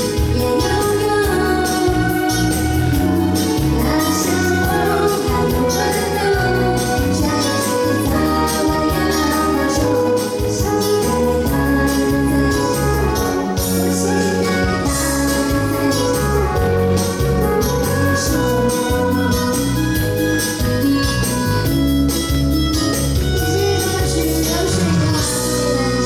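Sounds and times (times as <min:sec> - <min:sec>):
song with bass and chords: 0:00.0 - 0:26.0.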